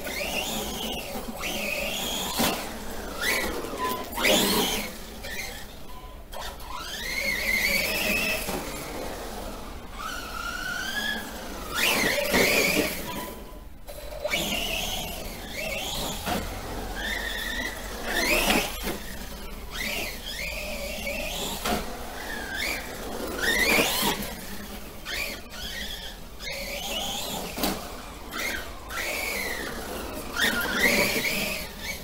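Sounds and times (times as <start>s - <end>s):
electric motor whining: 0.0s - 32.0s.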